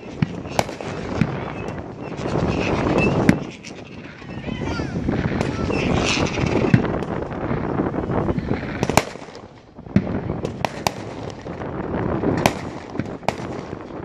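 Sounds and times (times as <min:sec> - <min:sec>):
distant fireworks rumble: 0:00.0 - 0:14.0
fireworks bangs and cracks: 0:00.0 - 0:14.0.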